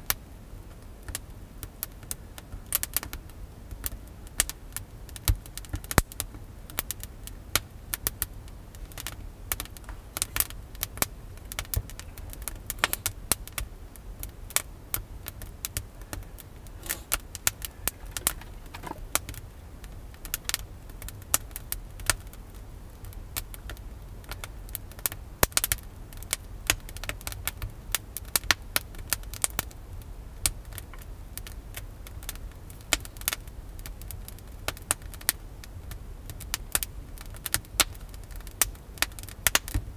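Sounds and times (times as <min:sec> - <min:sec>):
wood fire crackling: 0:00.0 - 0:39.9
low steady rumble: 0:06.2 - 0:39.9.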